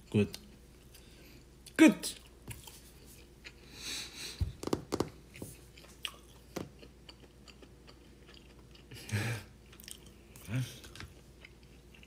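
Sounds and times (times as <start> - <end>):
person chewing crunchy food: 0.0 - 4.3, 5.1 - 12.0.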